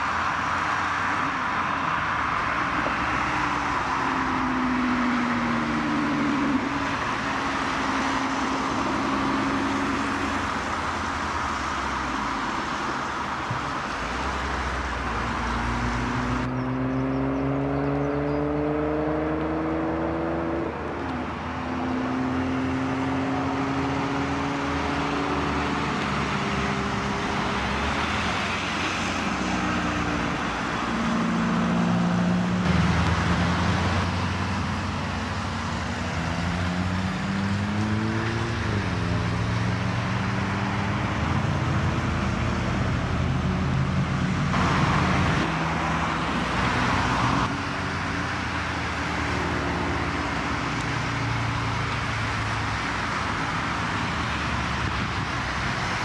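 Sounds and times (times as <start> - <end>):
cars driving past: 0.0 - 56.0
road noise: 0.0 - 56.0.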